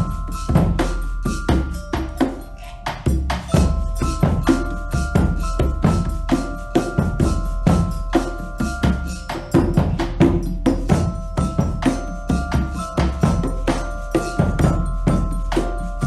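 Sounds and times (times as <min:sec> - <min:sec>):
low drum: 0:00.0 - 0:16.0
ringing pitched tones: 0:00.0 - 0:16.0.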